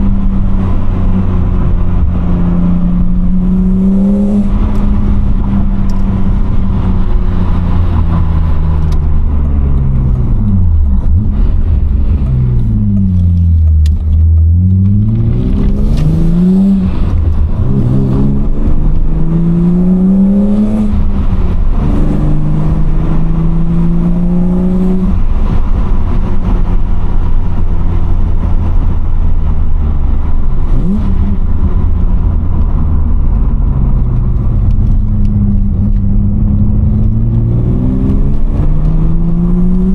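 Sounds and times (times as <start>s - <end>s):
car engine revving: 0.0s - 39.9s
road noise: 0.0s - 39.9s
wind noise: 0.0s - 39.9s.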